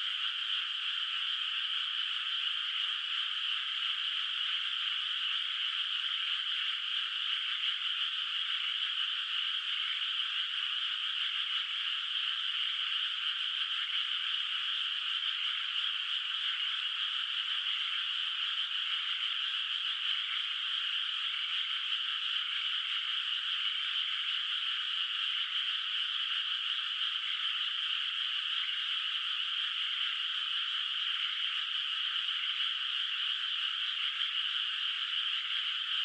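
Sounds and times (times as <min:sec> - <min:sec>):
chorus of frogs calling: 0:00.0 - 0:36.0.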